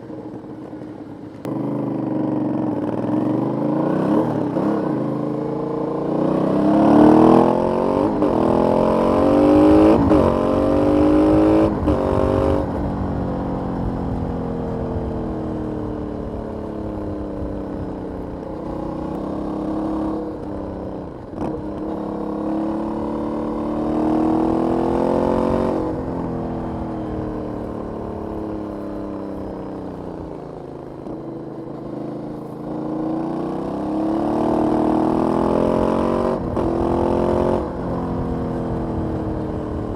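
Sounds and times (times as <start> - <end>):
motorcycle revving and upshifting: 0.2 - 39.9.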